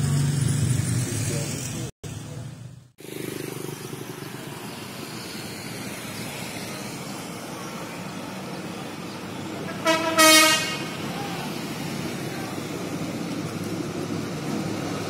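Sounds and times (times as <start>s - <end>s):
steady road traffic: 0.0s - 15.0s.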